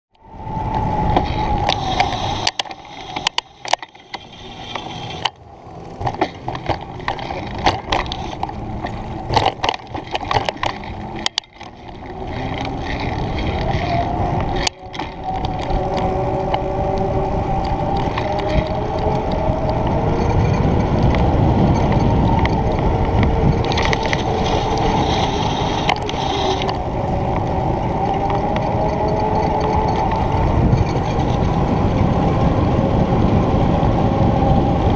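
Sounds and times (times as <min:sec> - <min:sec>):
bicycle tyre rumble on pavement: 0:00.2 - 0:34.9
wind buffeting microphone: 0:00.2 - 0:34.9.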